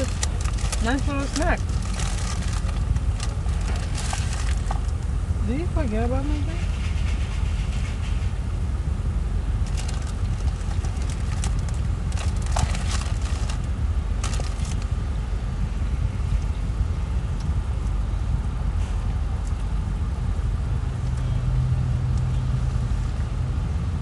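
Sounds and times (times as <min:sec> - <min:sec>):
car engine idling: 0:00.0 - 0:06.8, 0:08.4 - 0:21.4
low steady hum: 0:00.0 - 0:24.0.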